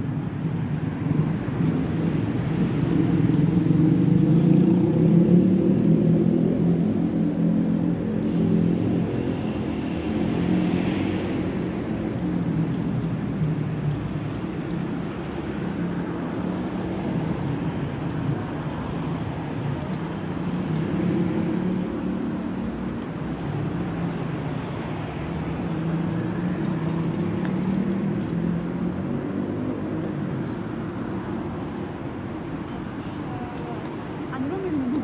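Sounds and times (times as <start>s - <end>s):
motor vehicle engines running: 0.0s - 35.0s.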